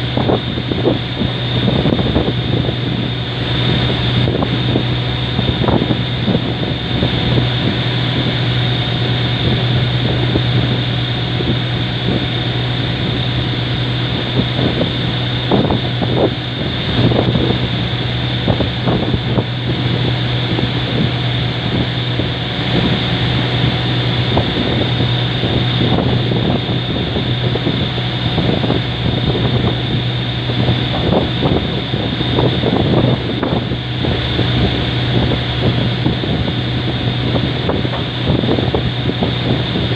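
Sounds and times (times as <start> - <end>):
boat engine droning: 0.0 - 39.9
wind buffeting microphone: 0.0 - 39.9.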